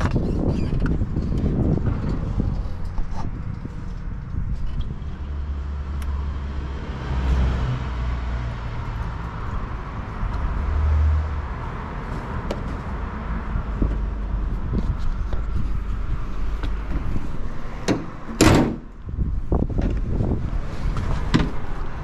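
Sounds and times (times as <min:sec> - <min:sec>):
diesel engine drone: 0:00.8 - 0:22.0.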